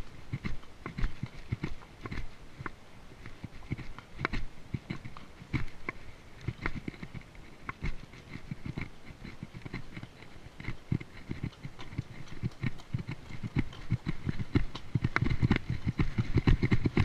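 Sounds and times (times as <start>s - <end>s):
horse hooves on rocky trail: 0.0s - 17.0s.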